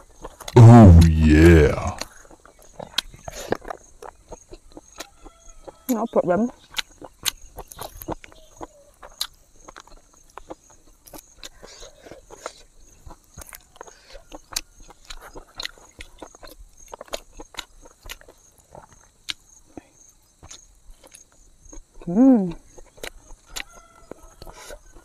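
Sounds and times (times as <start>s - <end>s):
person chewing with wet smacks: 2.0s - 19.5s, 20.4s - 25.0s.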